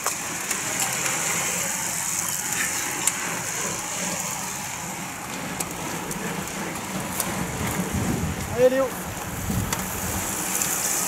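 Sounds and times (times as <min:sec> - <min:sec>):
bicycles whirring past: 0:00.0 - 0:11.0.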